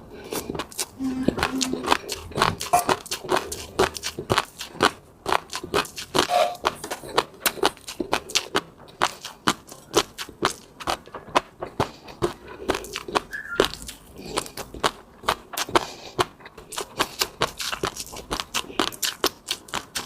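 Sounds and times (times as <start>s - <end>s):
person chewing wetly: 0.0s - 20.0s.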